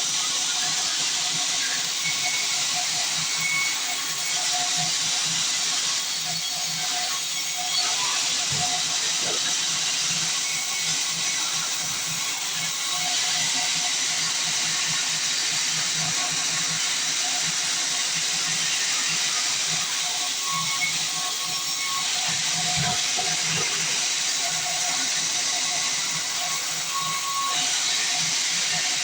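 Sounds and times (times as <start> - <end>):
band saw cutting through log: 0.0 - 29.0.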